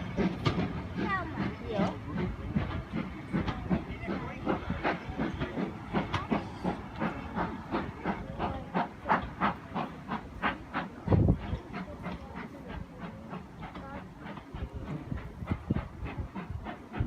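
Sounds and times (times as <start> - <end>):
steam hissing: 0.0 - 17.0
steam train rhythmic chugging: 0.0 - 17.0.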